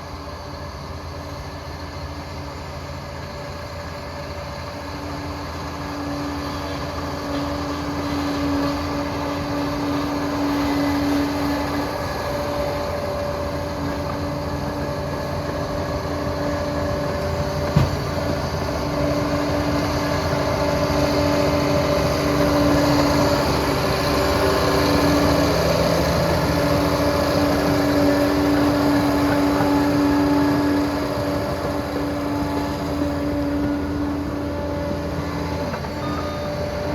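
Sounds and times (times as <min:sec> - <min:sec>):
dozer diesel engine running: 0:00.0 - 0:36.9
track and machine clatter: 0:00.2 - 0:36.9.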